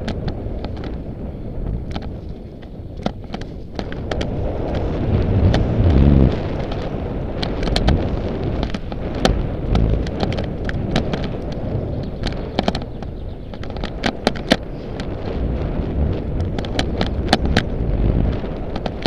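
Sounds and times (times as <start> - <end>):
bike clicks and rattles: 0.0 - 19.0
bike tyres rumbling on dirt: 0.0 - 19.0
wind buffeting microphone: 0.0 - 19.0.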